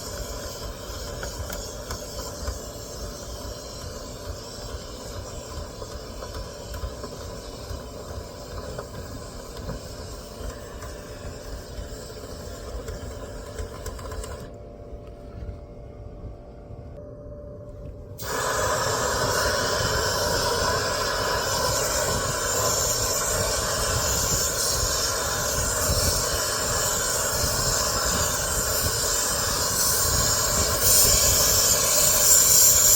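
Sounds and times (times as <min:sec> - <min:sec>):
compressed air hissing: 0:00.0 - 0:14.5, 0:18.2 - 0:32.9.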